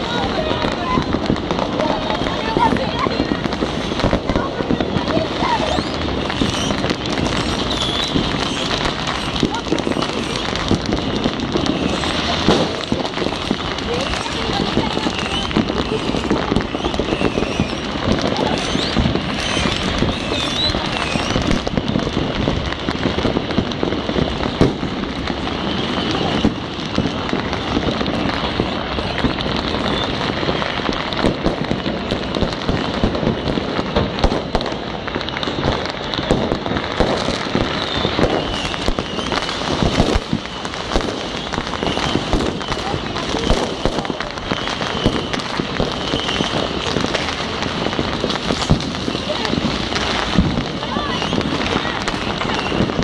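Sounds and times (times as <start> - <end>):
fireworks and firecrackers banging: 0.0 - 53.0.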